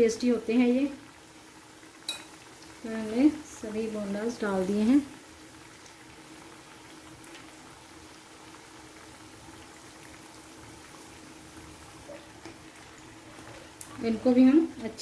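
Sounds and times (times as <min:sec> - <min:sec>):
hot oil bubbling and sizzling: 0:00.0 - 0:15.0.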